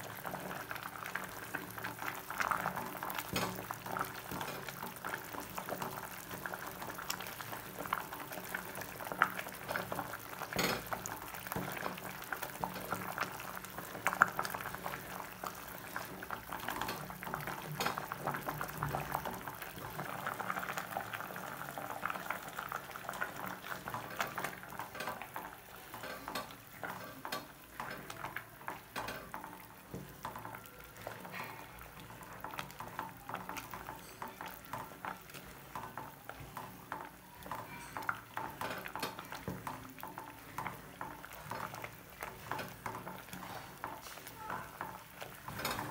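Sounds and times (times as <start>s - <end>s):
soup bubbling in a metal pot: 0.0s - 45.9s.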